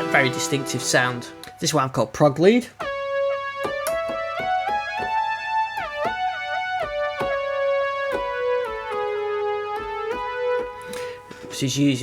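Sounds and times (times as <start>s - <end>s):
synthesizer lead melody: 0.0s - 1.9s, 2.8s - 11.2s.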